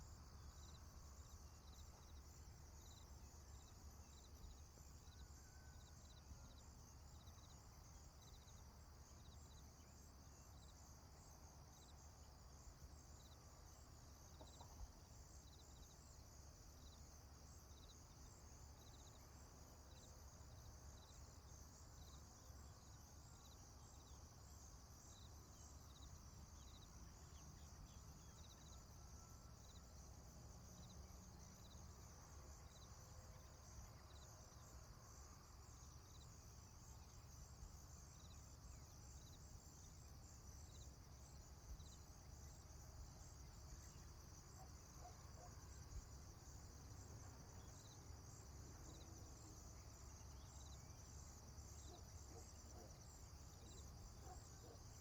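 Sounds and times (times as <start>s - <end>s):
faint insects chirping: 0.0s - 55.0s.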